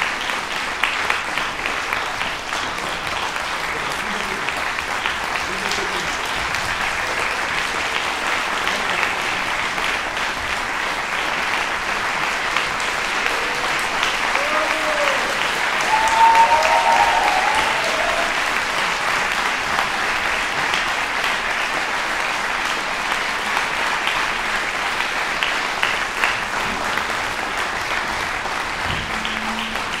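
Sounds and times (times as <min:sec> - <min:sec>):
audience applauding: 0:00.0 - 0:30.0.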